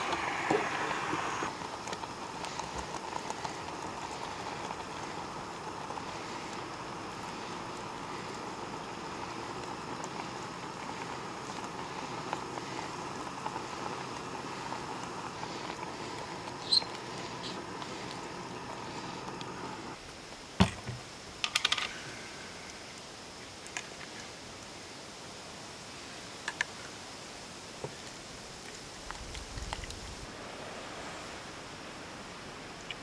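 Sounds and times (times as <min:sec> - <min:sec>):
camp stove hiss: 0:00.0 - 0:33.0.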